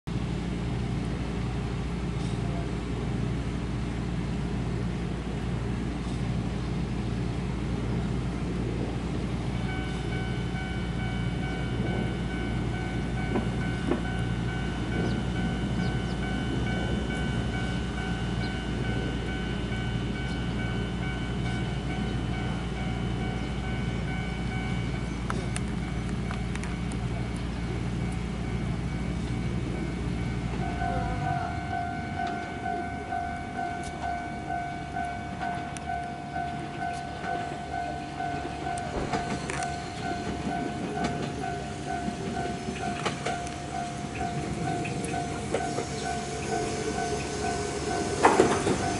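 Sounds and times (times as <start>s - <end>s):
electric train rumbling: 0.1s - 48.9s
level crossing alarm: 9.5s - 48.9s.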